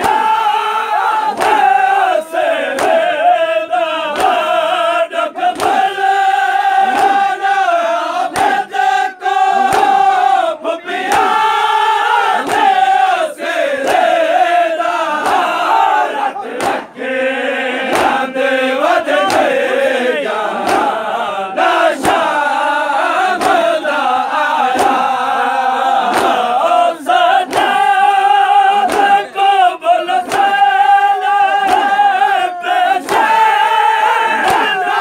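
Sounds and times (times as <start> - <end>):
hands slapping chests: 0.0 - 17.0, 17.8 - 35.0
men chanting in unison: 0.0 - 35.0.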